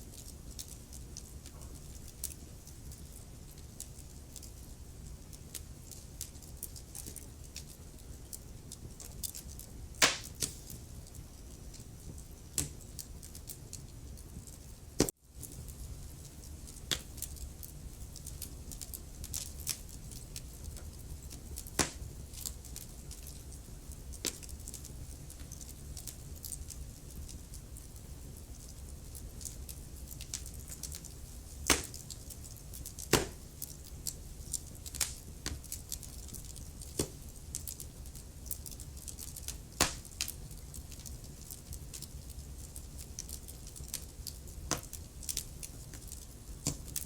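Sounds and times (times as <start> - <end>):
fire crackling and popping: 0.0 - 47.0
fire rumbling and hissing: 0.0 - 47.0.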